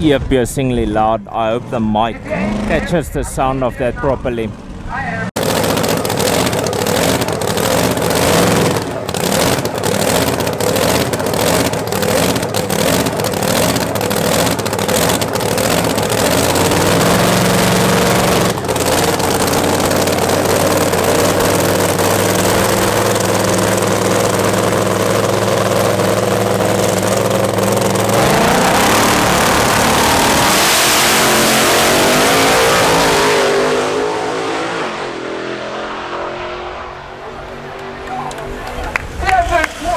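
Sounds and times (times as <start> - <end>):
drag racing car engine: 0.0 - 39.9.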